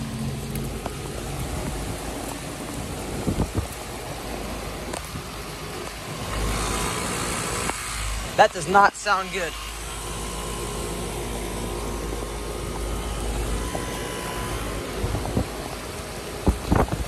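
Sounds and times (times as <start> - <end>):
air conditioner unit humming: 0.0 - 16.4
heavy rain patter: 0.0 - 17.0.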